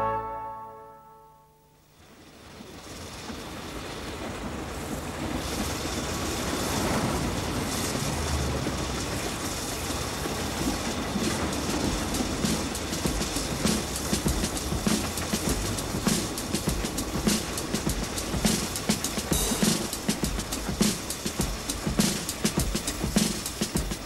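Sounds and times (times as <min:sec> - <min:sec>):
steam train running past: 0:02.0 - 0:24.0
train wheels clacking over rail joints: 0:02.8 - 0:24.0.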